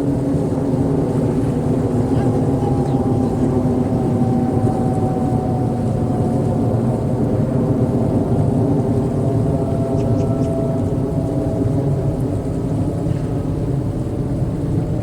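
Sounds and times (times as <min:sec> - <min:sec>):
faint steady hum: 0:00.0 - 0:15.0
surf rumbling on shore: 0:00.0 - 0:15.0.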